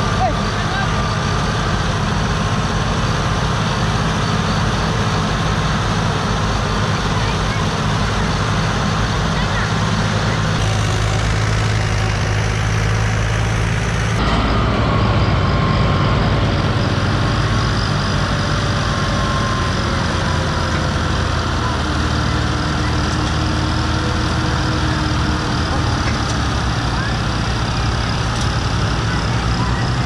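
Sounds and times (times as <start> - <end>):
tractor diesel engines under load: 0.0 - 30.0.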